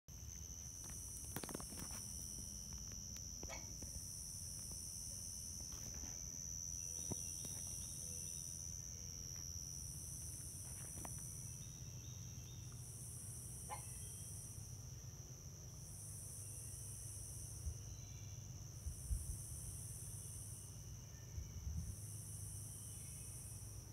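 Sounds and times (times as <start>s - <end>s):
higher insect buzz: 0.1s - 23.9s
insects trilling: 0.1s - 23.9s.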